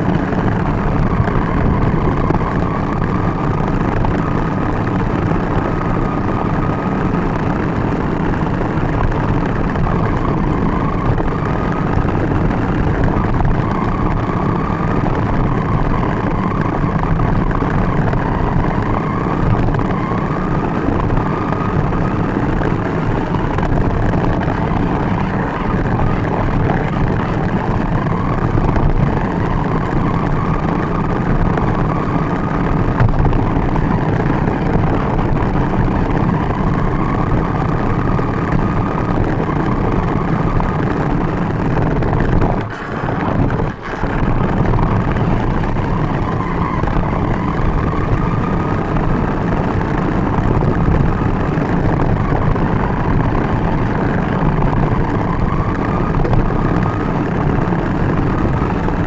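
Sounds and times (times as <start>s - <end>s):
small tyres rumbling on asphalt: 0.0s - 59.0s.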